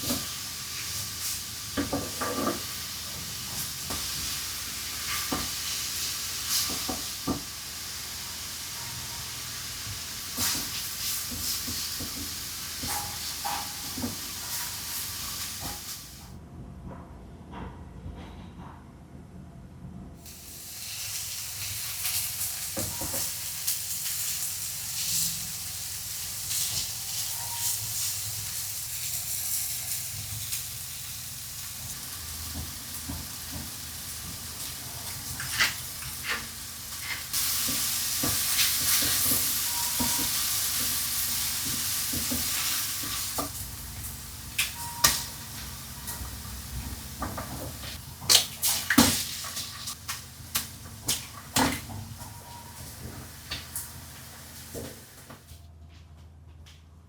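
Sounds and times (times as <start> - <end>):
food sizzling in a pan: 0.0 - 16.3, 20.2 - 55.5.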